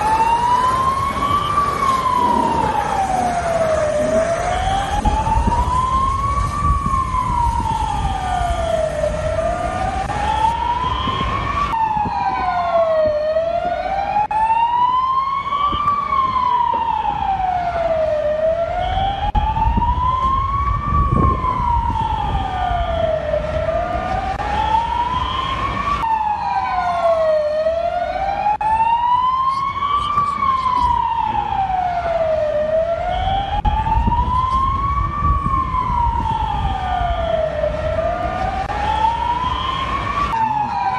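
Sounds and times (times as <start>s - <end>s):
emergency siren wailing: 0.0s - 40.9s.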